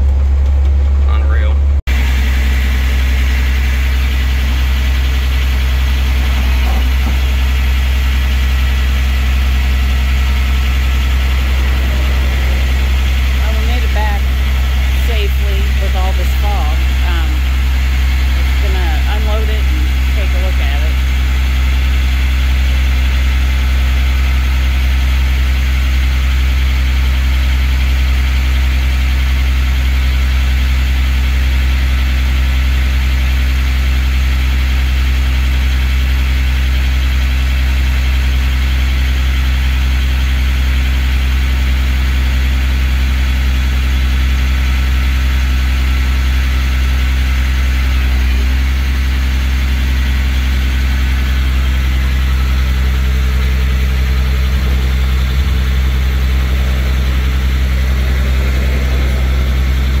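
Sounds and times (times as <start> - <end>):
tow truck engine idling: 0.0 - 60.0.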